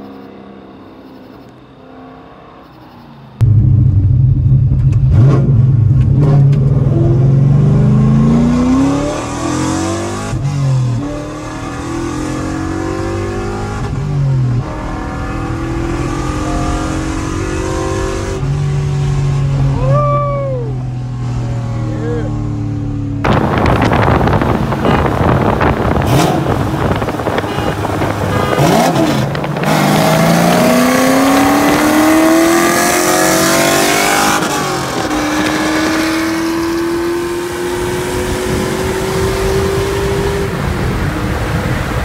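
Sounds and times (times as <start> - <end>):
car engine revving at full throttle: 3.4 - 42.0.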